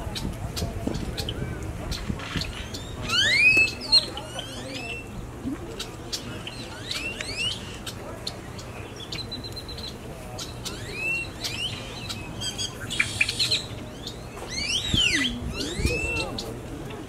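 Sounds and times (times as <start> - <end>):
songbirds calling: 0.0 - 17.0.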